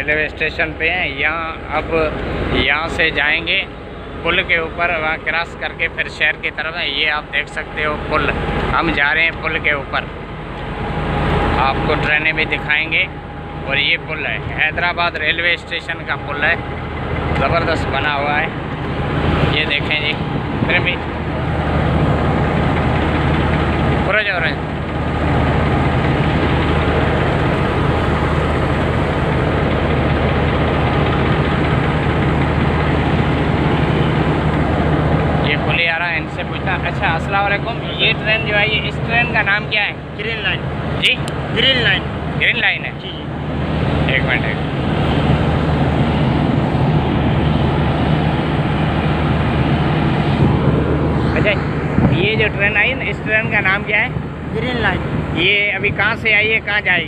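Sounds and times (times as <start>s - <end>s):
diesel train engine idling: 0.0s - 57.0s.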